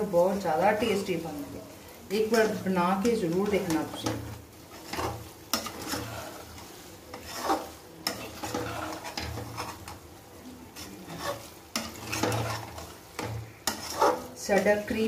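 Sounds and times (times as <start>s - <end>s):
metal spoon scraping a pan: 2.2s - 15.0s.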